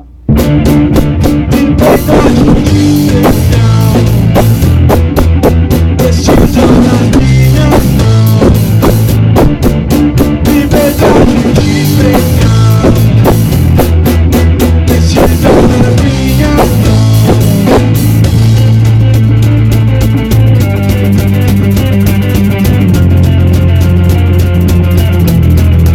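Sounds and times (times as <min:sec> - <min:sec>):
drum kit beating: 0:00.0 - 0:25.9
rock band playing: 0:00.0 - 0:25.9.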